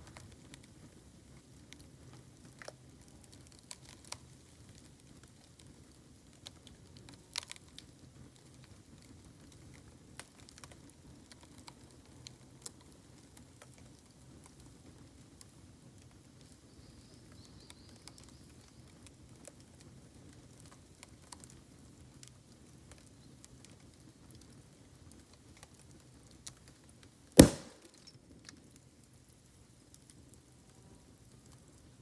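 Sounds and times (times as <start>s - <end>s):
bamboo fire crackling and popping: 0.0s - 32.0s.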